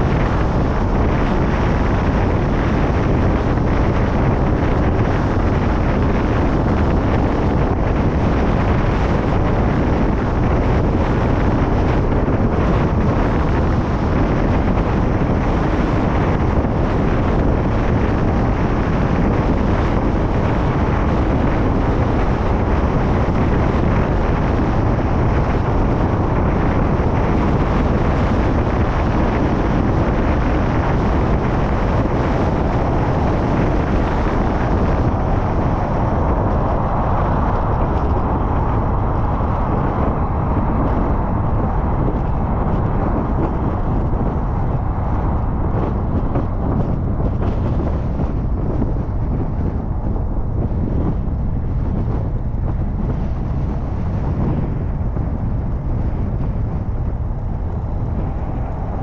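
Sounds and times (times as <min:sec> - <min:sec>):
car road and wind noise: 0:00.0 - 0:59.0
wind buffeting microphone: 0:00.0 - 0:59.0.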